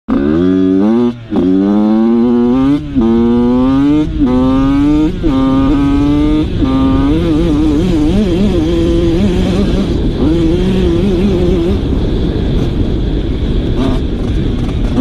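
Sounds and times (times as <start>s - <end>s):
motorbike engine accelerating: 0.1s - 15.0s.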